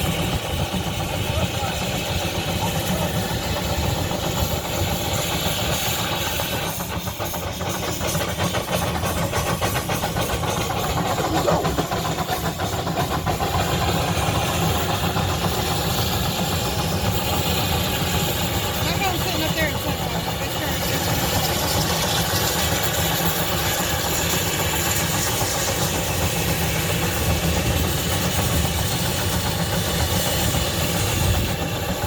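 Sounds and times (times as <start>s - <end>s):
old engine running rhythmically: 0.0s - 32.0s.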